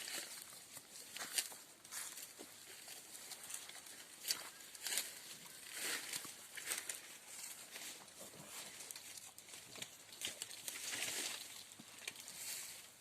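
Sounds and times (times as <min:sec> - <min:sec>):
goats rustling and shuffling: 0:00.0 - 0:13.0.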